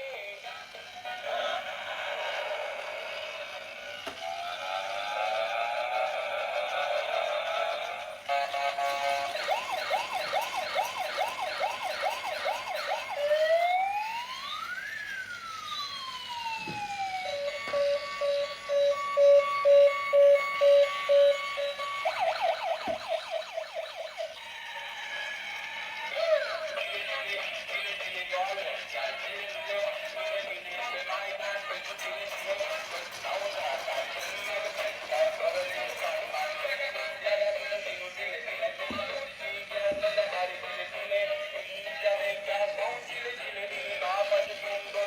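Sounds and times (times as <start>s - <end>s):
electronic toy siren: 0.8s - 38.2s.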